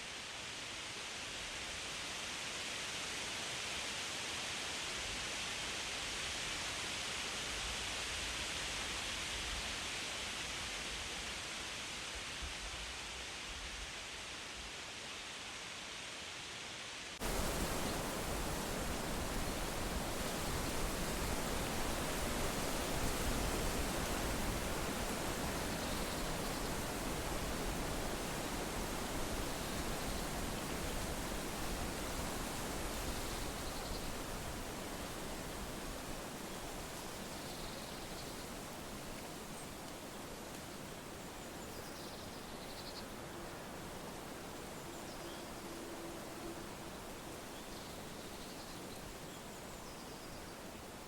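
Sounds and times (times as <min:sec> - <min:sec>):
wind rustling leaves: 0:00.0 - 0:51.0.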